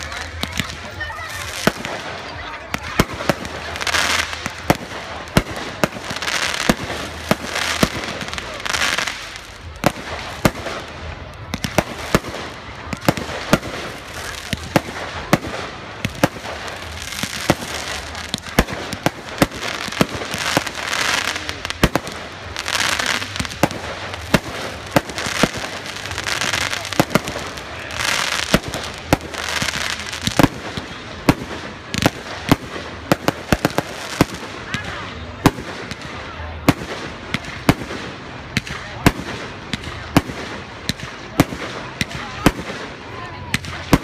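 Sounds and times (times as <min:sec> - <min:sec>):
fireworks bangs: 0:00.0 - 0:44.0.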